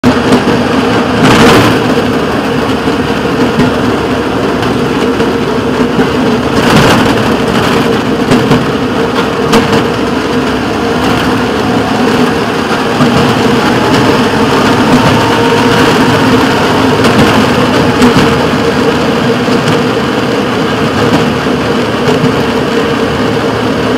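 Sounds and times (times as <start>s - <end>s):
rail motorcar engine running: 0.0s - 23.9s
rushes of louder noise: 0.0s - 23.9s.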